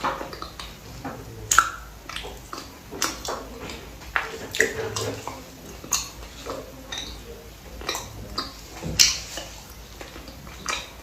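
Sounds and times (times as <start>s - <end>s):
wet chewing mouth smacks: 0.0s - 11.0s.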